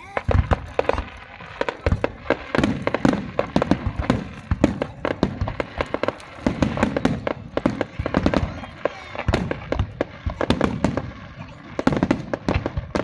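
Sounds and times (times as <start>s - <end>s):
fireworks booming: 0.0s - 13.0s
fireworks cracking and popping: 0.0s - 13.0s.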